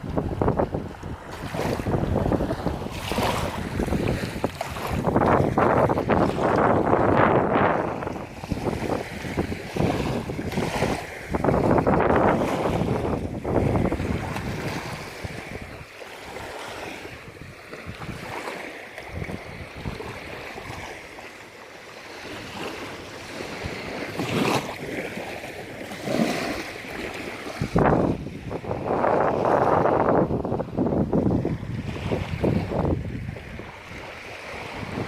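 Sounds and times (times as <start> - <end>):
wind buffeting microphone: 0.0 - 21.3, 22.0 - 35.0
sea waves washing in: 0.0 - 35.0.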